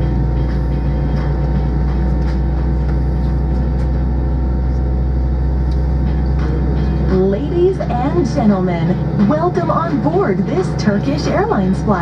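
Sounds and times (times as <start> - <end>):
aircraft cabin drone: 0.0 - 12.0
steady hum tones: 0.0 - 12.0.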